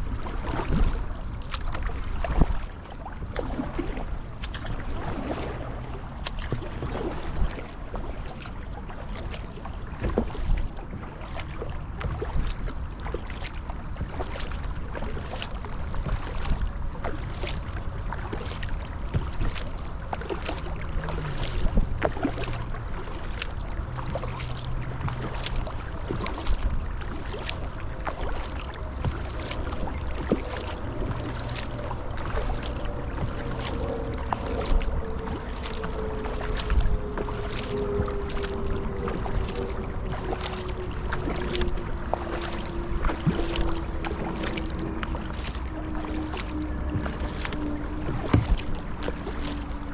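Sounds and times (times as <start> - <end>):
paddle strokes in water: 0.0 - 49.9
water splashes and drips: 0.0 - 49.9
wind rumble on microphone: 0.0 - 49.9.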